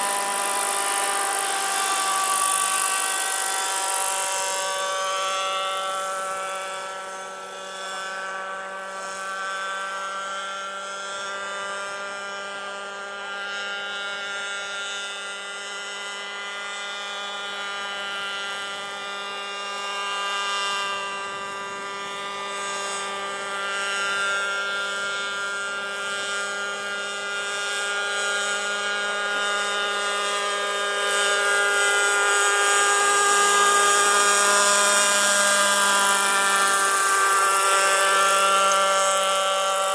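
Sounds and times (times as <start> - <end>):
helicopter rotor noise: 0.0 - 39.9
model helicopter engine whine: 0.0 - 39.9.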